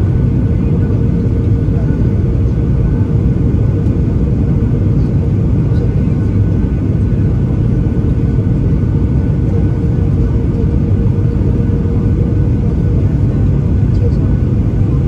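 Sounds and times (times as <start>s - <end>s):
airplane cabin roar: 0.0s - 15.0s
steady hum: 0.0s - 15.0s.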